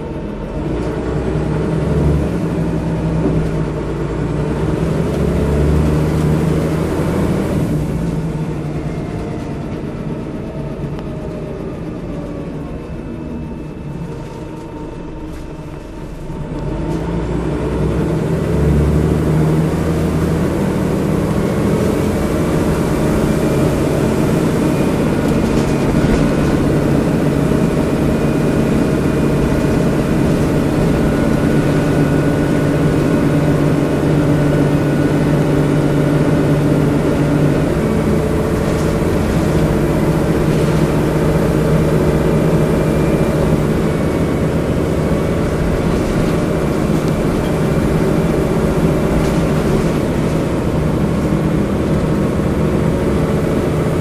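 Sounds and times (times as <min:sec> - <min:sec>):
diesel bus engine: 0:00.0 - 0:54.0.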